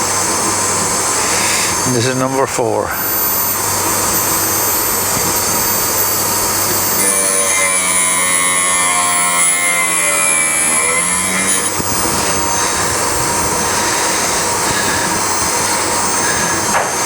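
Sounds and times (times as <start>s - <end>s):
grinding machine running: 0.0s - 17.0s
grinding whine with high whistle: 0.0s - 17.0s.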